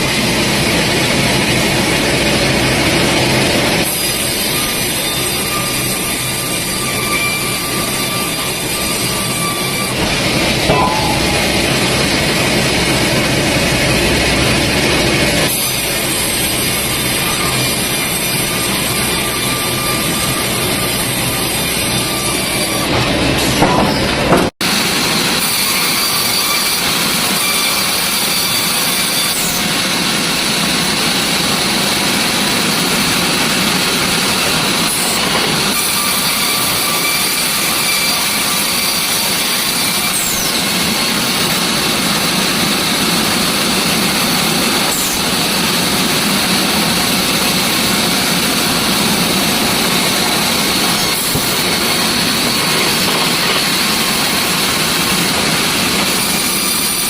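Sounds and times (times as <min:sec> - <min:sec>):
high machine whine: 0:00.0 - 0:25.4, 0:26.1 - 0:57.0
sawmill machinery running: 0:00.0 - 0:57.0.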